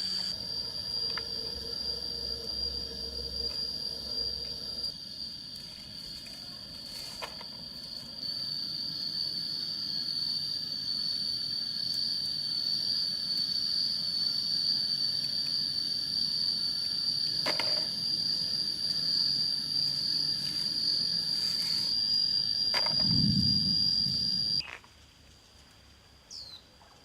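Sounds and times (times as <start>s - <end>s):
high-pitched insect drone: 0.0s - 24.8s.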